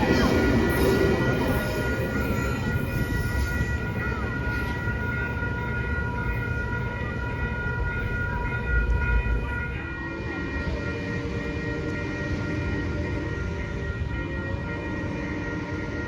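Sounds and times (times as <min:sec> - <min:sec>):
lower steady tones: 0:00.0 - 0:16.0
steady high-pitched tones: 0:00.0 - 0:16.0
train rumbling: 0:00.0 - 0:16.0.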